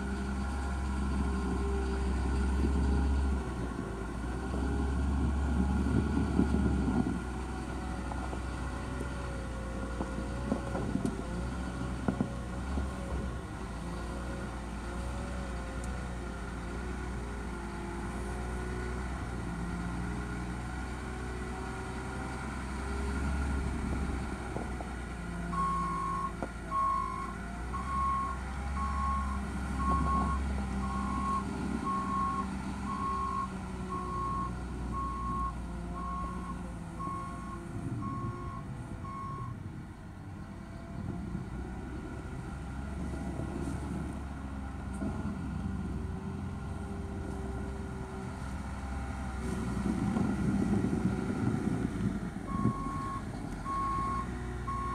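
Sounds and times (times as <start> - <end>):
wheel loader diesel engine: 0.0 - 54.9.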